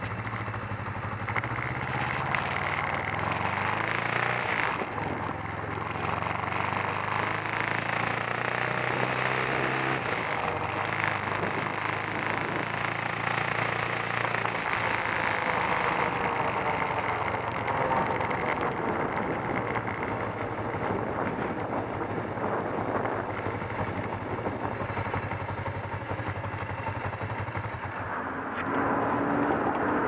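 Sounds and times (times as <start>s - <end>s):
motorcycle engine slowing and idling: 0.0s - 30.0s.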